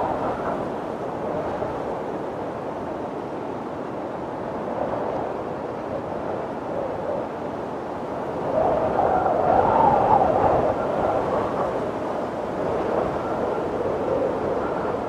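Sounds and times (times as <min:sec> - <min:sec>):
snowstorm wind blowing: 0:00.0 - 0:15.0.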